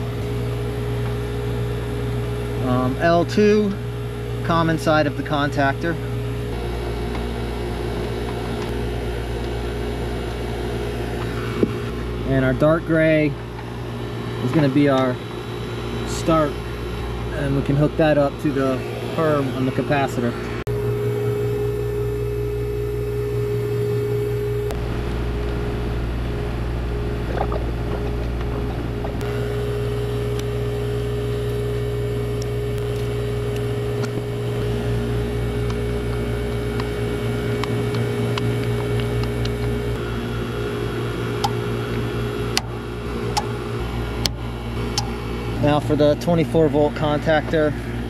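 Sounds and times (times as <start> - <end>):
vacuum pump motor drone: 0.0 - 48.0.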